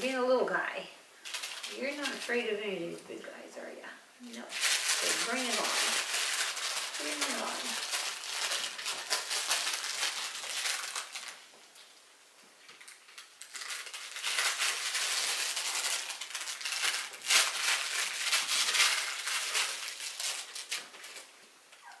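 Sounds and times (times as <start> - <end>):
plush toy crinkling and rustling: 1.2 - 2.5, 4.3 - 22.0.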